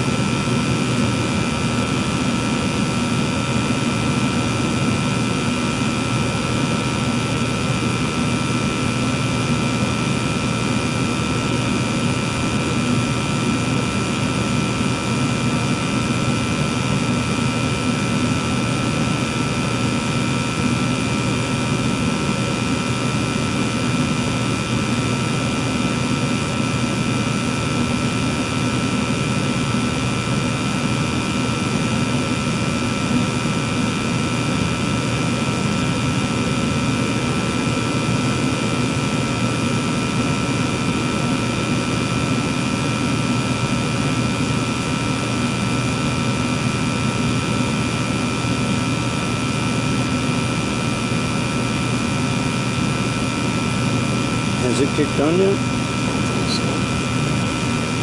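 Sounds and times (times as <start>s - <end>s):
gas furnace burner humming: 0.0s - 58.0s.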